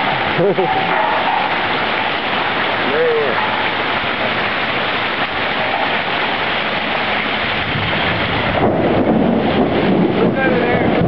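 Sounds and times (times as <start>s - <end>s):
heavy rain and hail: 0.0s - 11.0s
low rough rumble: 0.0s - 11.0s.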